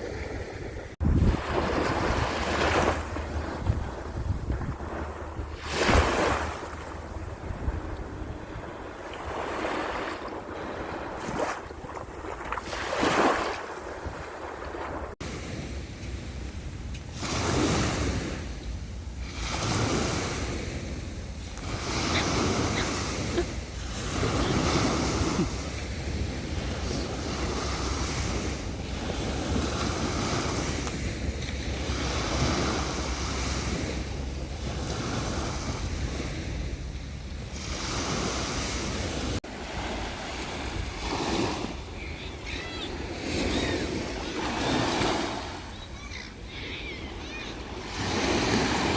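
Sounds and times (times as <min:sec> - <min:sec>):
ocean waves breaking on beach: 0:00.0 - 0:48.9
wind on microphone: 0:00.0 - 0:48.9.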